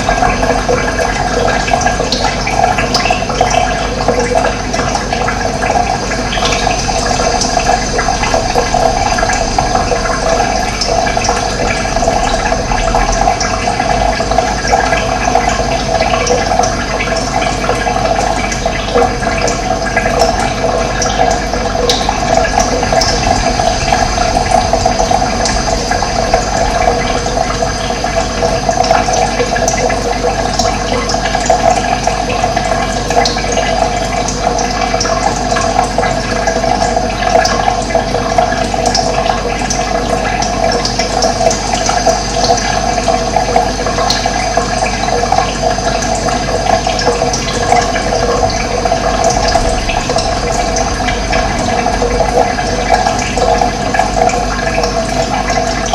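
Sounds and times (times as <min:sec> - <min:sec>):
running water flowing: 0:00.0 - 0:55.9.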